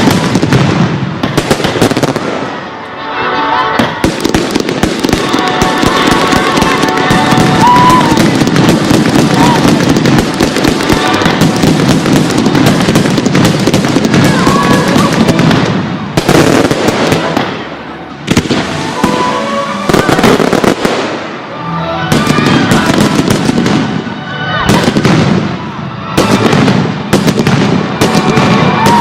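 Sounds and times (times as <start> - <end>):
loud fireworks bangs: 0.0 - 2.8, 3.7 - 29.0
fireworks crackling and popping: 0.0 - 3.0, 3.7 - 29.0.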